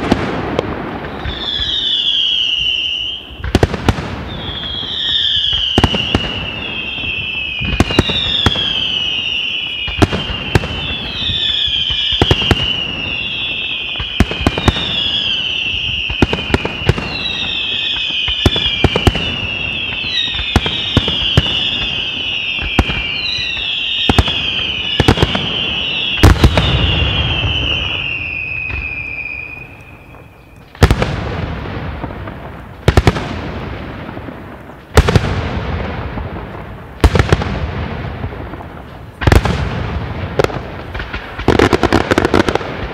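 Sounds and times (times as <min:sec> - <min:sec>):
fireworks bangs: 0:00.0 - 0:42.9
fireworks whistling: 0:00.0 - 0:42.9.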